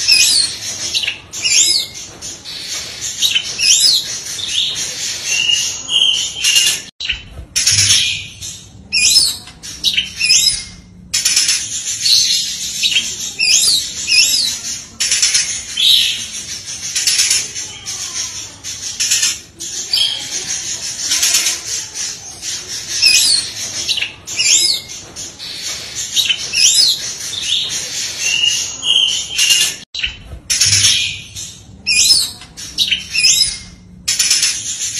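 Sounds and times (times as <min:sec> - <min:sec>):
bird singing whistles and chatter: 0:00.0 - 0:34.9.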